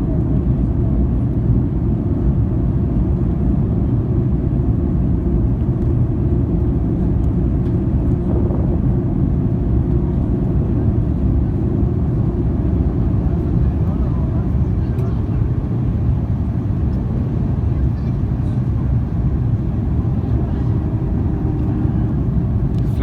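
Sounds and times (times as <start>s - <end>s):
airliner cabin engine roar: 0.0s - 23.0s.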